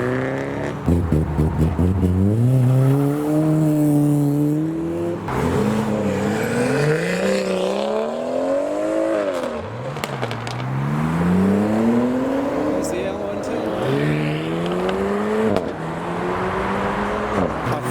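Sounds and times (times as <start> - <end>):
car engines accelerating hard: 0.0 - 17.9.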